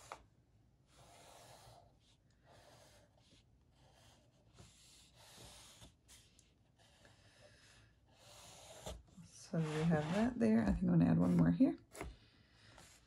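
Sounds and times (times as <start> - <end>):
pencil scratching on paper: 0.9 - 13.0.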